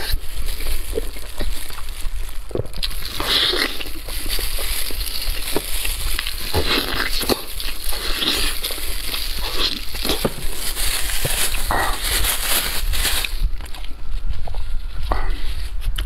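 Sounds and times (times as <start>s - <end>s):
meat and skin tearing: 0.0s - 14.0s.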